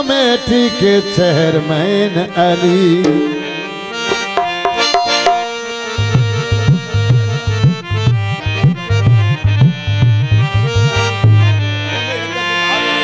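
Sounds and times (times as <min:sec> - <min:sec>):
harmonium chords: 0:00.0 - 0:13.0.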